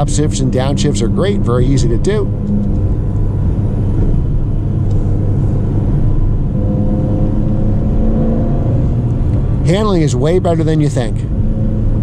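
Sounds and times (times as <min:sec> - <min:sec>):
car engine cruising from inside: 0:00.0 - 0:12.0
tyre and road noise: 0:00.0 - 0:12.0.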